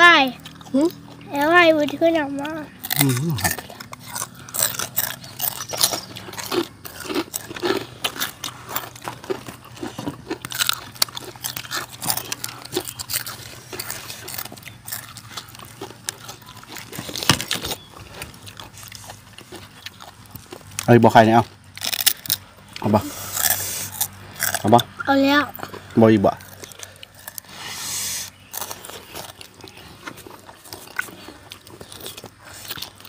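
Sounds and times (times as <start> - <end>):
crunching and chewing: 0.0 - 33.0.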